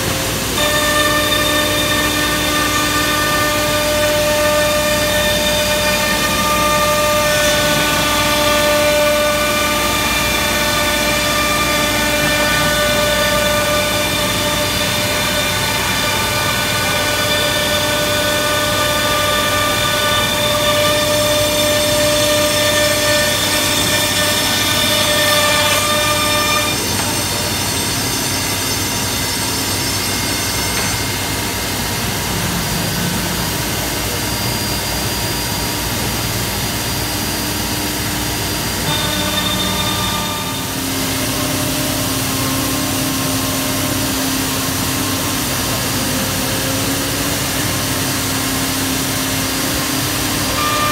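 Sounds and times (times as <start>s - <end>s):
cnc router cutting board: 0.0s - 50.9s
high multi-pitched whine: 0.0s - 50.9s.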